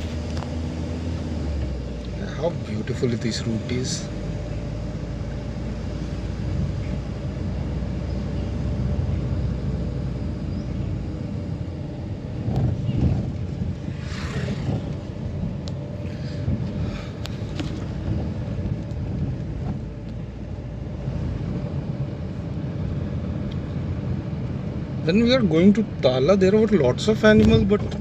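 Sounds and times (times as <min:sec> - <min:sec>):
vehicle engine and tyres rumbling: 0:00.0 - 0:28.0.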